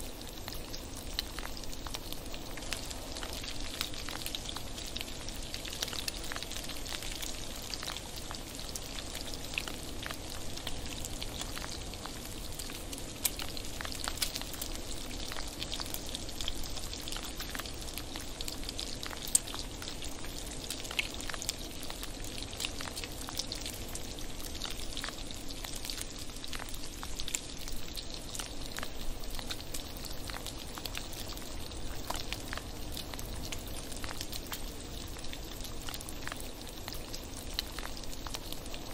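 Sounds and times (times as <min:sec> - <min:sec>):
bacon sizzling in a frying pan: 0:00.0 - 0:38.9.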